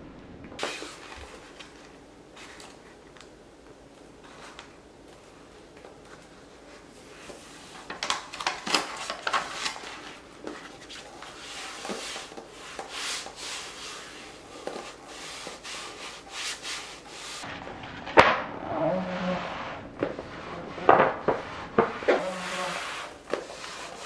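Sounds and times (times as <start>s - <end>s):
gloves rustling over film: 0.6s - 17.4s, 20.0s - 24.0s.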